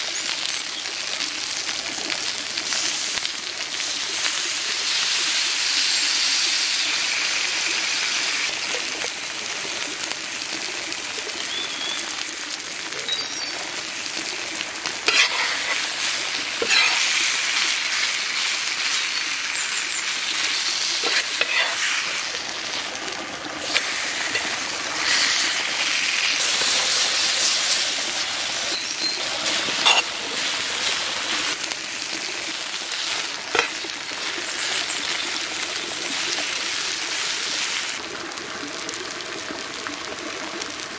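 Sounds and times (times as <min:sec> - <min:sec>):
steak sizzling in oil: 0:00.0 - 0:40.9.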